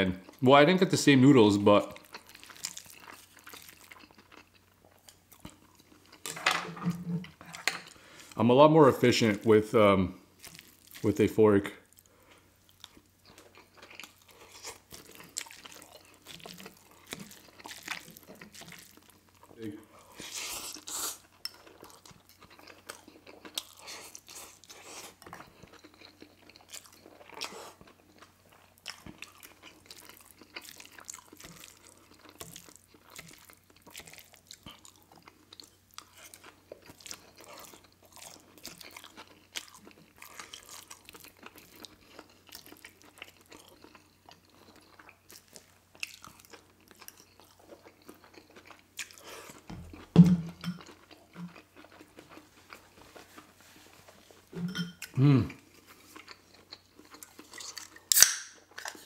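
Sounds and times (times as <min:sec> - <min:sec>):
chewing noodles: 0:01.9 - 0:06.3, 0:10.4 - 0:11.0, 0:11.8 - 0:59.0.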